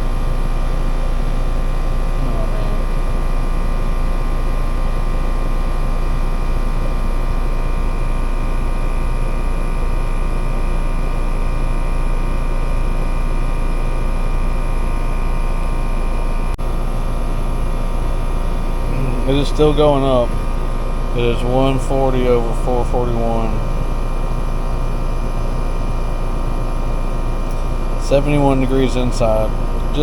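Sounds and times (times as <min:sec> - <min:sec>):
heat pump running: 0:00.0 - 0:30.0.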